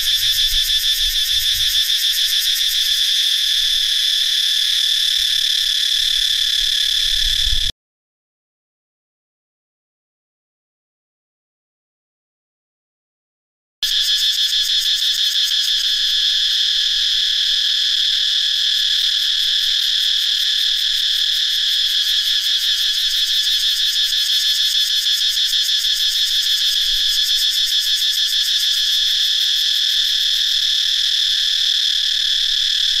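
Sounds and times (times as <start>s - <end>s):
cicadas buzzing: 0.0s - 7.7s, 13.8s - 33.0s.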